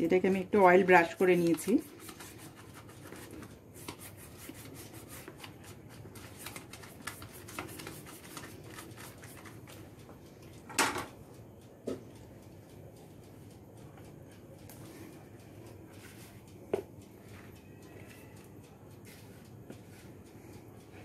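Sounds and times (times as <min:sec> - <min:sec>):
pastry brush brushing with ticks: 0:00.0 - 0:10.7, 0:12.2 - 0:21.0.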